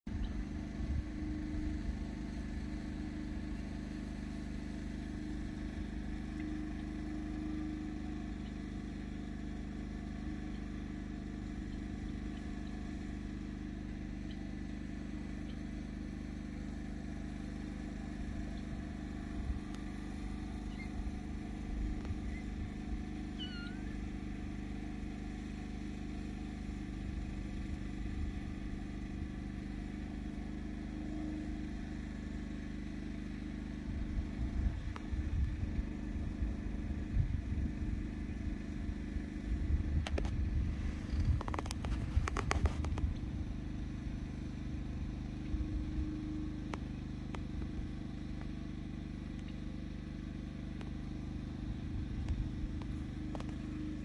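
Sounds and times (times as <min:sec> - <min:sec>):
motor drone: 0:00.1 - 0:54.0.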